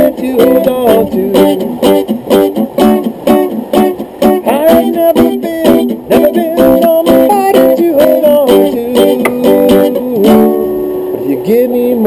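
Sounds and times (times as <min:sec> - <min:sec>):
guitar playing plucked chords: 0:00.0 - 0:12.0.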